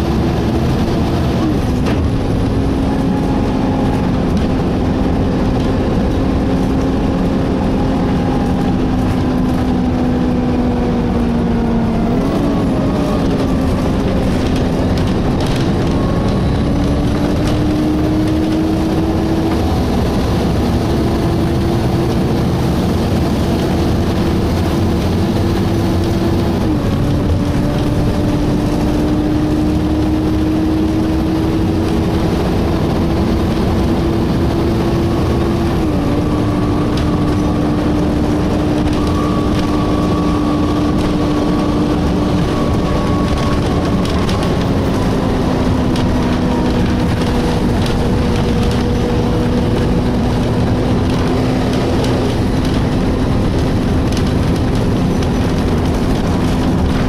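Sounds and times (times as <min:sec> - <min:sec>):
bus engine: 0:00.0 - 0:57.0
engine cooling fan whine: 0:00.0 - 0:57.0
road rumble: 0:00.0 - 0:57.0.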